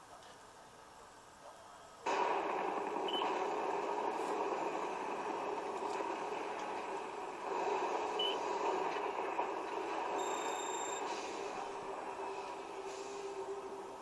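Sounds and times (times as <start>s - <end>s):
dense rumble of film sound effects: 2.0s - 14.0s.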